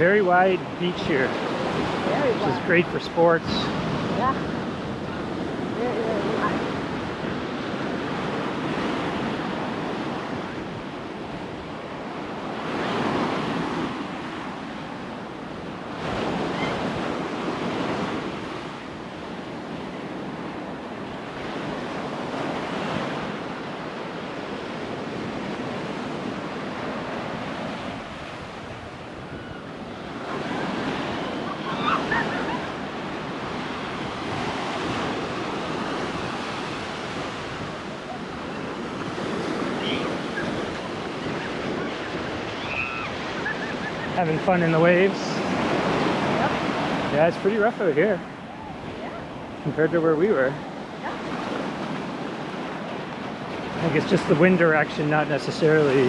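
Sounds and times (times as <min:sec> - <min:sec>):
wind buffeting microphone: 0:00.0 - 0:54.2
ocean surf breaking on beach: 0:00.0 - 0:56.0.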